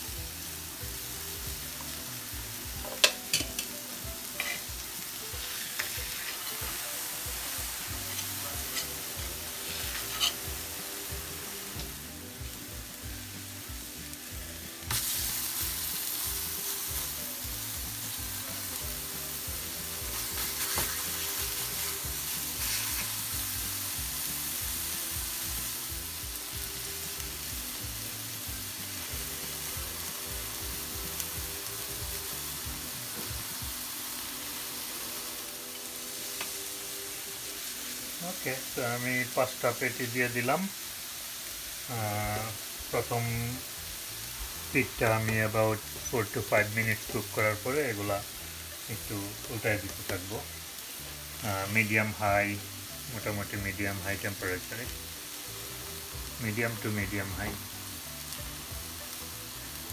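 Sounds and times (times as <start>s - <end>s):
patties sizzling on a griddle: 0.0s - 59.9s.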